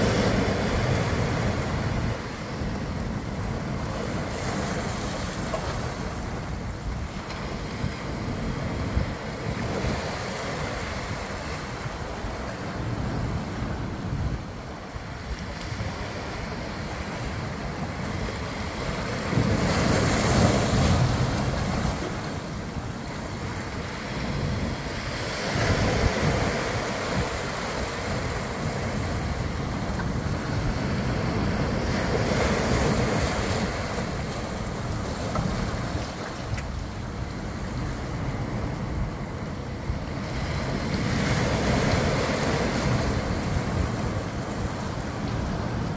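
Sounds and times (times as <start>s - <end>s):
waves breaking on shore: 0.0s - 45.9s
wind buffeting microphone: 0.0s - 45.9s.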